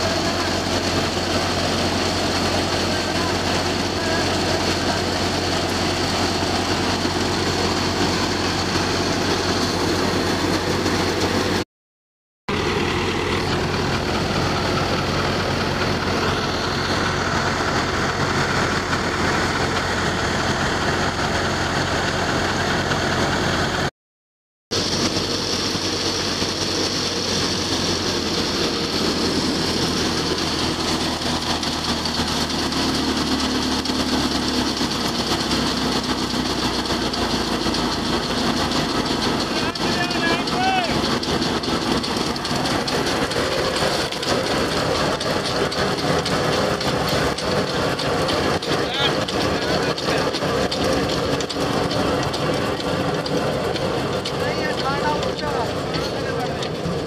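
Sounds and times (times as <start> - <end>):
thresher running: 0.0 - 11.6, 12.5 - 23.9, 24.7 - 57.0
tractor diesel engine running: 0.0 - 11.6, 12.5 - 23.9, 24.7 - 57.0.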